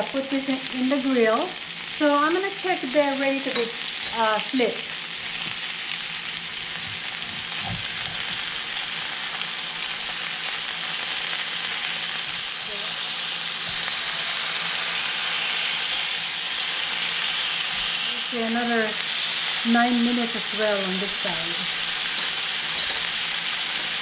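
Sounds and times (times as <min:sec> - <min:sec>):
chicken sizzling in grill pan: 0:00.0 - 0:24.0.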